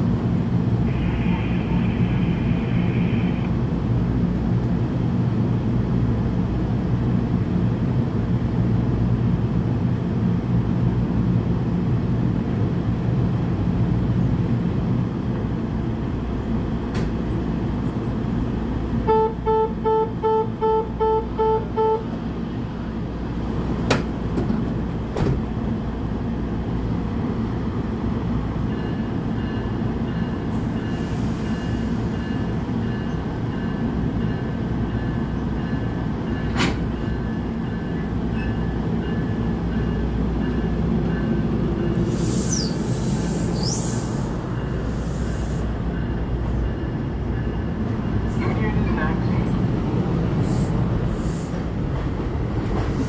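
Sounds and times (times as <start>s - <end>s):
standing train humming: 0.0s - 53.0s.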